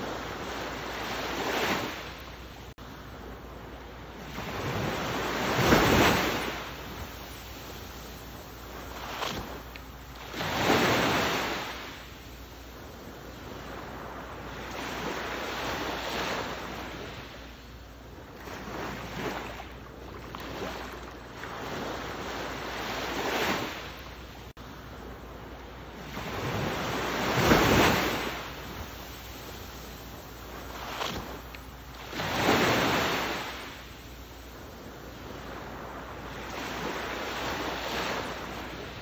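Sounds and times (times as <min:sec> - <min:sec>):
ocean waves washing in: 0:00.0 - 0:39.0.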